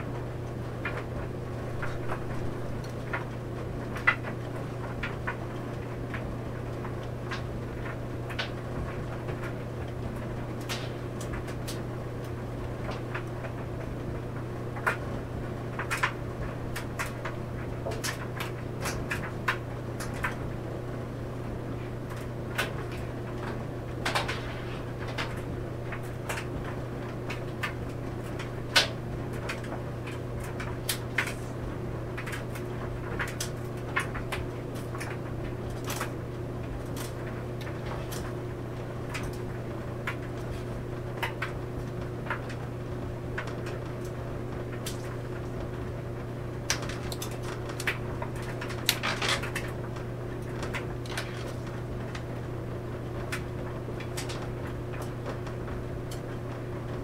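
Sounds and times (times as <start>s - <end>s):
clothes dryer humming: 0.0s - 57.0s.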